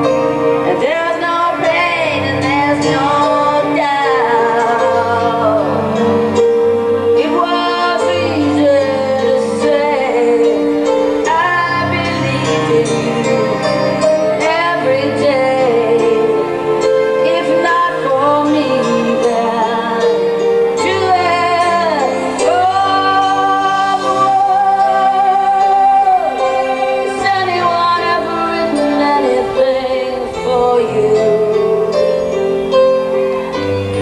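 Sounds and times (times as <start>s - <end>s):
lead melody line: 0.0s - 34.0s
live band playing rock ballad: 0.0s - 34.0s.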